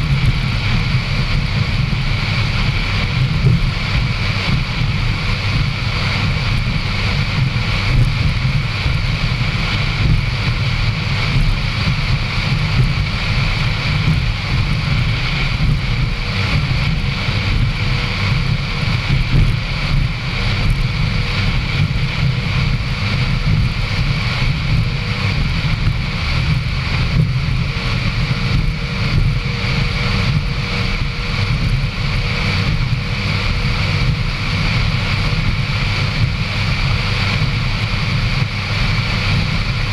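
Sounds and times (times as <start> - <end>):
powerboat engine drone: 0.0 - 39.9
wind buffeting microphone: 0.0 - 39.9.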